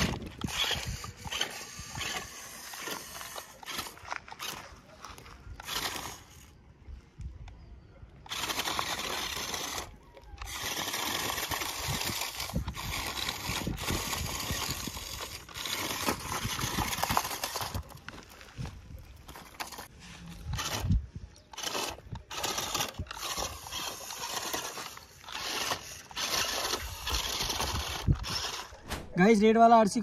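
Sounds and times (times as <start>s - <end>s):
small electric motor whirring: 0.0s - 6.6s, 8.2s - 18.3s, 19.3s - 28.9s.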